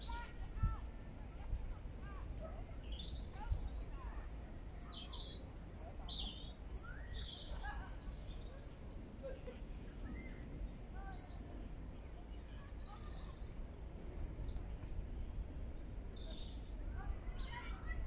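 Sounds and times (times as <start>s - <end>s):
small songbirds chirping: 2.8s - 18.0s.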